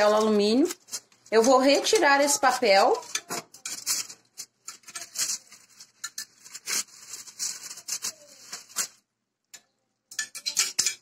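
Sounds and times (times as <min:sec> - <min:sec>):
aluminium foil crinkling: 0:00.0 - 0:09.1, 0:10.2 - 0:11.0.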